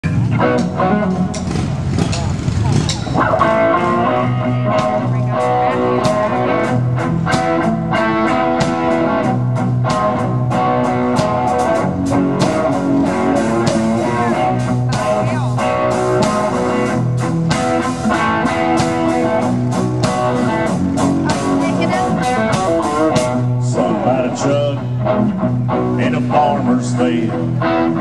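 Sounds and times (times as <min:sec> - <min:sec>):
country rock band playing: 0:00.0 - 0:28.0.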